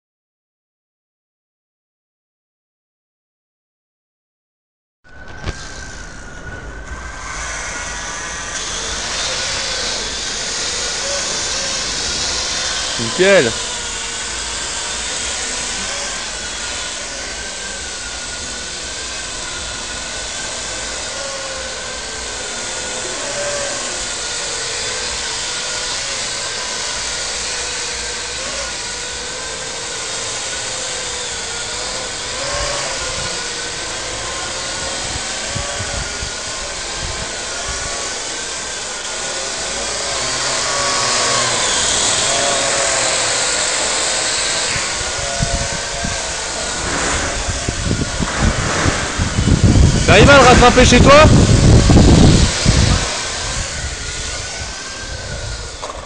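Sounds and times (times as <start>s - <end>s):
drone motors buzzing: 5.1s - 56.0s.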